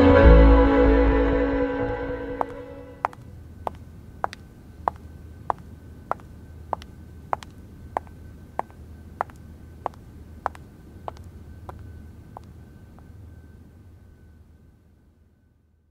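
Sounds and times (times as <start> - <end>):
faint low hum: 0.0 - 15.9.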